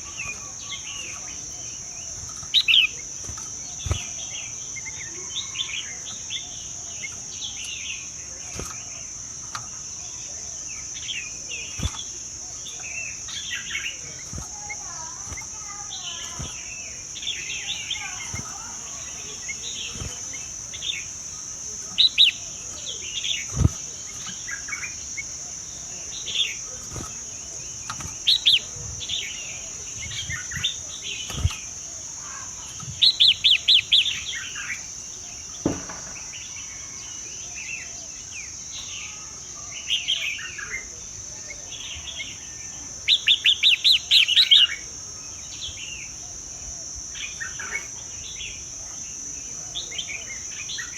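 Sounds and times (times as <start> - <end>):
birds chirping: 0.0 - 8.6, 9.6 - 50.9
high-pitched insect drone: 0.0 - 50.9.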